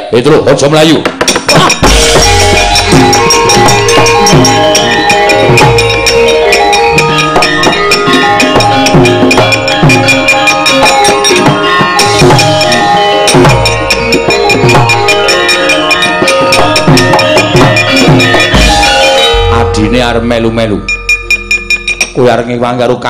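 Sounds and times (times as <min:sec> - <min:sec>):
sharp knocks clattering: 0:01.0 - 0:19.6
metallophones ringing: 0:01.2 - 0:23.0
drum strokes sliding in pitch: 0:01.3 - 0:22.3.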